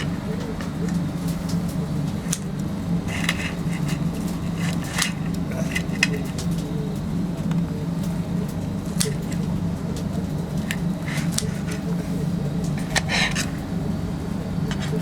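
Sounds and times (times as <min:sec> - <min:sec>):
light clicks and clatter: 0:00.0 - 0:15.0
low mechanical hum: 0:00.0 - 0:15.0.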